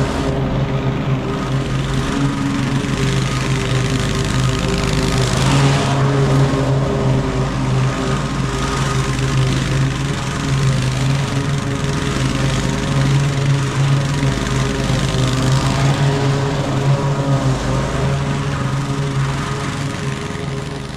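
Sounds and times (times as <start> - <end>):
lawn mower engine running: 0.0 - 20.9.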